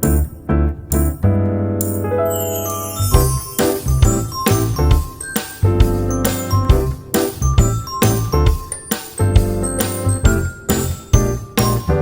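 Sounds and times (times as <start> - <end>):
upbeat music with chimes and bass: 0.0 - 12.0.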